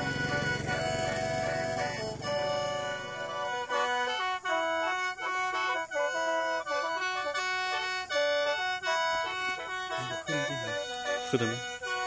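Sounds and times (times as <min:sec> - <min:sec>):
free-reed mouth organ melody: 0:00.0 - 0:12.0.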